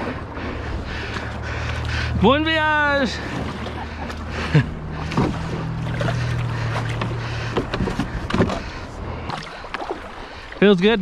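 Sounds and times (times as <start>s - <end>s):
kayak hull scraping riverbed: 0.0s - 11.0s.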